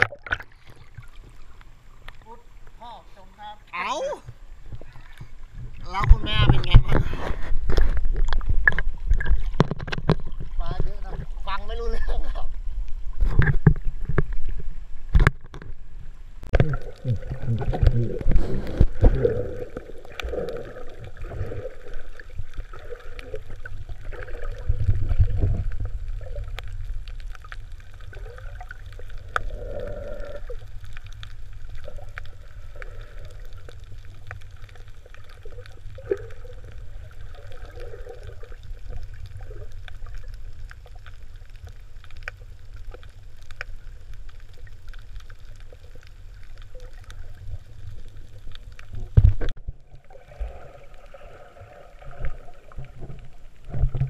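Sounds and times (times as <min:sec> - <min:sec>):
underwater rumble: 0:00.0 - 0:54.0
gurgling bubbles: 0:04.6 - 0:11.5, 0:12.3 - 0:54.0.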